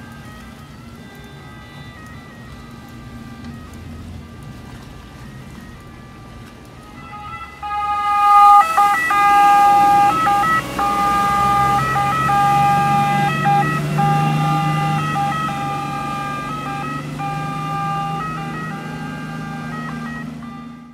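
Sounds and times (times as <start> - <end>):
boat engine drone: 0.0 - 20.9
boat siren: 0.0 - 20.9.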